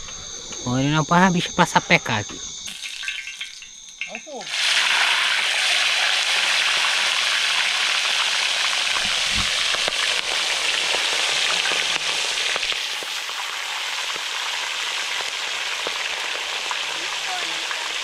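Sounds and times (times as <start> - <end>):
fish sizzling in hot oil: 2.7 - 18.0
oil popping and spattering: 2.7 - 18.0.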